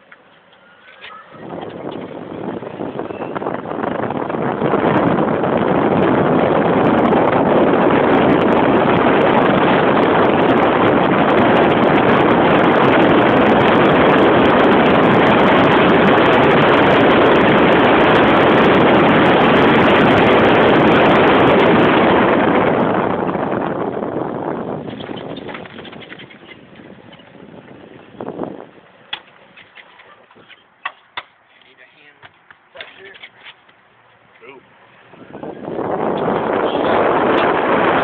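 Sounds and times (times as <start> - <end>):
wind roaring over microphone: 0.0 - 38.0.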